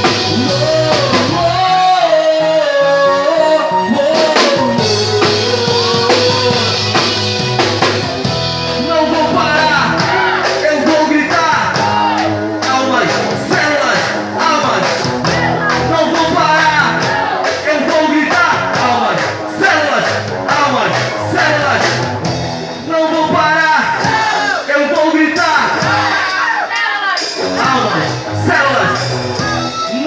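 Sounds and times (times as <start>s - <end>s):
rock band music: 0.0s - 30.0s.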